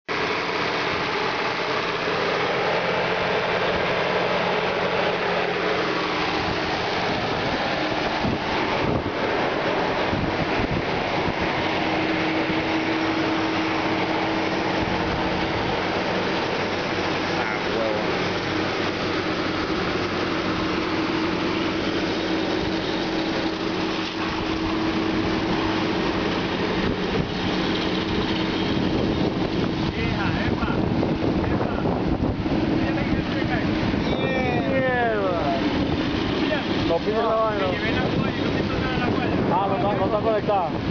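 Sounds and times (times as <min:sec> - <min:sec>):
tractor engine under load: 0:00.1 - 0:40.9.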